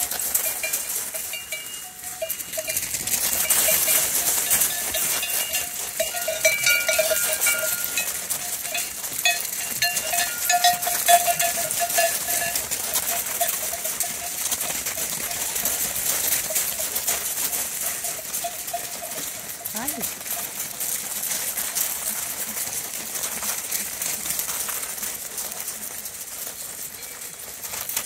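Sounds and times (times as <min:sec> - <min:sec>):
hooves crunching on gravel: 0:00.0 - 0:28.0
sheep bells clanking: 0:00.0 - 0:28.0.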